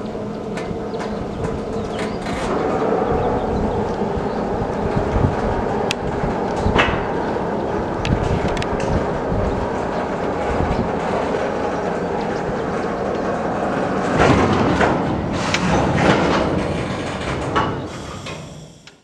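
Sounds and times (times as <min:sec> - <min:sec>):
wagon wheels rumbling on rails: 0:00.0 - 0:18.8.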